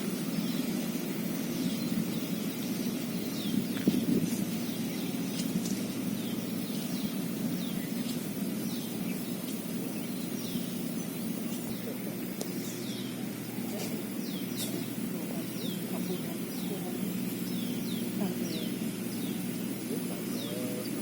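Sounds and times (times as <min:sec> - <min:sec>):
small bird chirping: 0:00.0 - 0:21.0
steady low rumble: 0:00.0 - 0:21.0.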